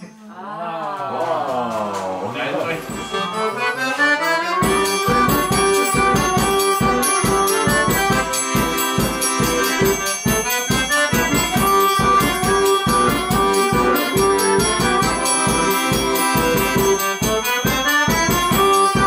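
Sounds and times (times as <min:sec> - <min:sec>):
steady low beat: 0:02.2 - 0:19.0
organ-like melody: 0:02.4 - 0:19.0
folk dance music by small band: 0:02.5 - 0:19.0.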